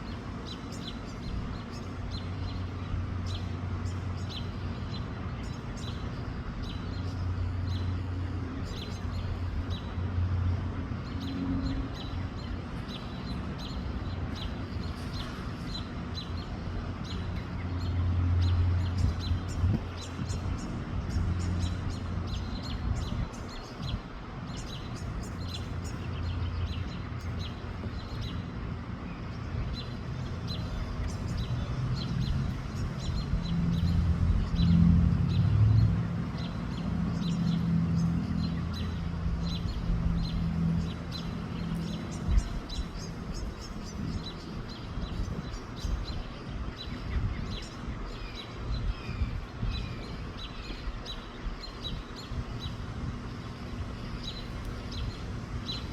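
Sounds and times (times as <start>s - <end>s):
small birds chirping: 0.0s - 55.9s
wind rumble on microphone: 0.0s - 55.9s.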